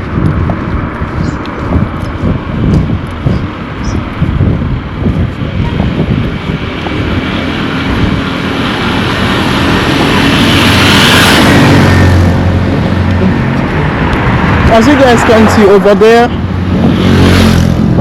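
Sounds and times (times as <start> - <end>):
motor vehicle passing by: 0.0 - 18.0.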